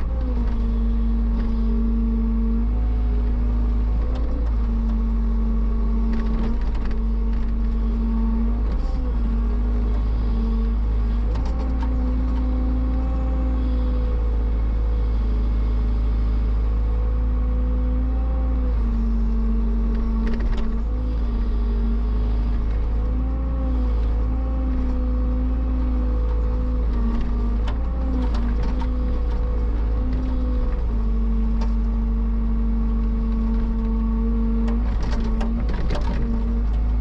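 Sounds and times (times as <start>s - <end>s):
heavy machine engine running: 0.0s - 37.0s.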